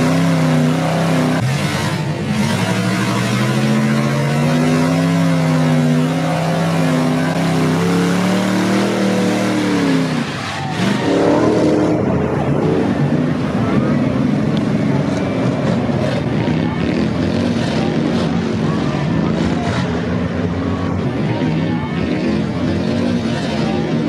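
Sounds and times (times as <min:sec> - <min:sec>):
truck engine revving high: 0:00.0 - 0:24.0.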